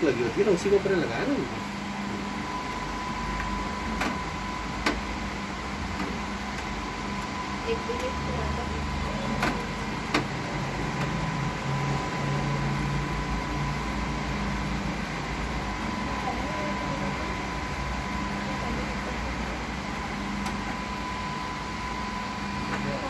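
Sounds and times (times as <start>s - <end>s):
printer mechanical hum: 0.0s - 23.0s
thin steady whine: 0.0s - 23.0s.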